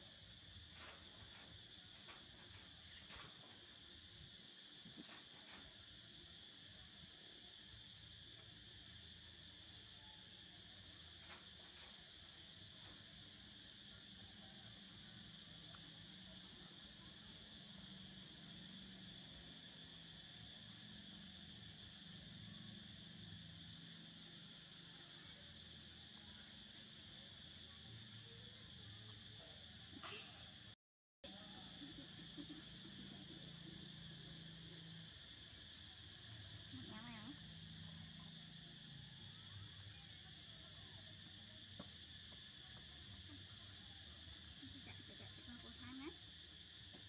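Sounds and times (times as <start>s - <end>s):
insect trill: 0.0s - 47.0s.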